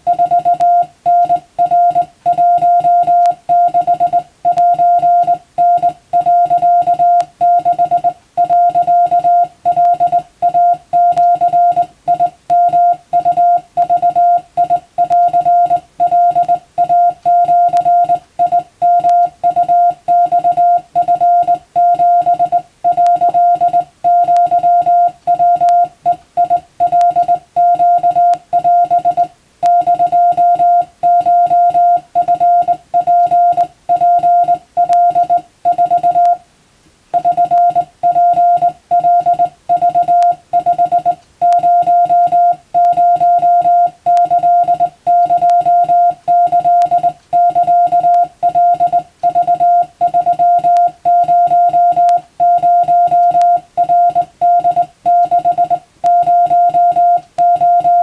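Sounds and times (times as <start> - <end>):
morse code sidetone beeping: 0.0 - 36.4, 37.2 - 58.0.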